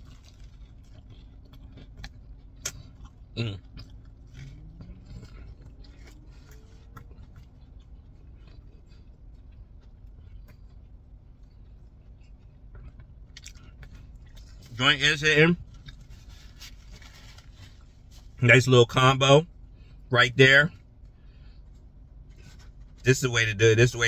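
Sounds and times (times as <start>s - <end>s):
person chewing sandwich: 0.0s - 14.8s, 15.6s - 18.4s, 20.7s - 23.0s.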